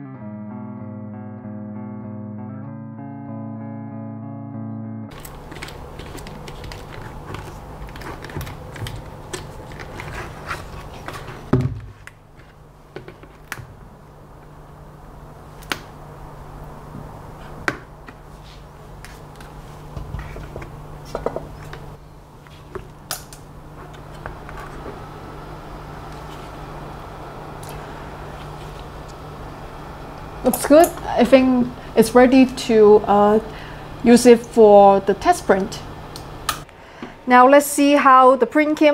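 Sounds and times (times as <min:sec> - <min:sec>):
steady low hum: 0:00.0 - 0:38.8.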